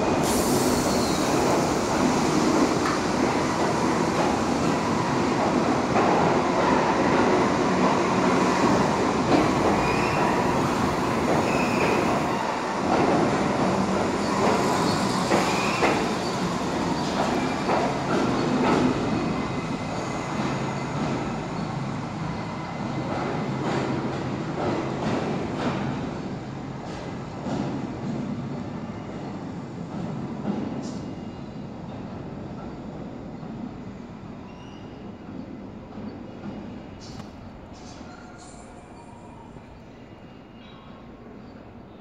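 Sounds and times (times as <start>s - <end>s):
train wheels rumbling on rail: 0.0s - 38.7s.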